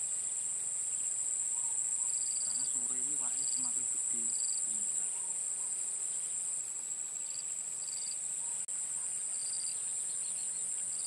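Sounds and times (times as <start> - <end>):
insects shrilling chorus: 0.0 - 11.0.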